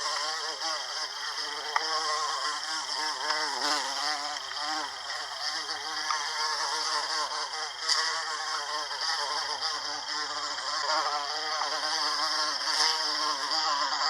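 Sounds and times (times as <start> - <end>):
bumblebee buzzing: 0.0 - 14.0.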